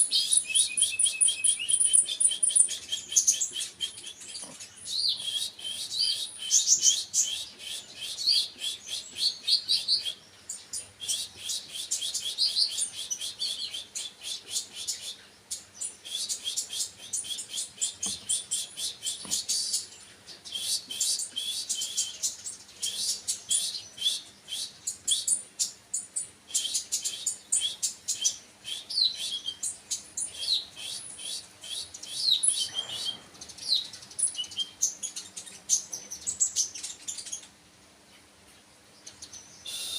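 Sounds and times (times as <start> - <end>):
small songbird chirping: 0.0 - 39.9.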